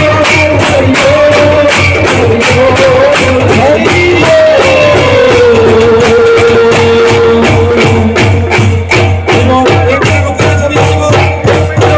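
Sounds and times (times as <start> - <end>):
drums beating steadily: 0.0 - 11.9
jingling high percussion: 0.0 - 11.9.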